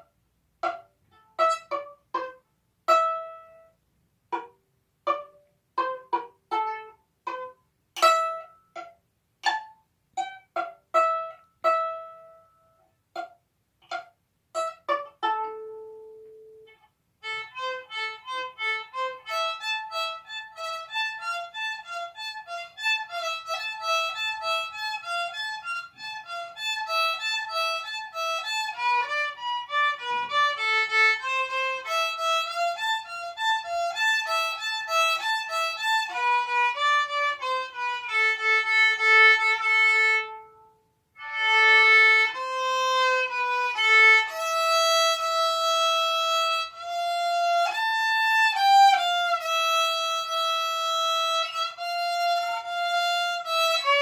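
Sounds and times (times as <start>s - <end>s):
solo violin melody: 0.0s - 54.0s.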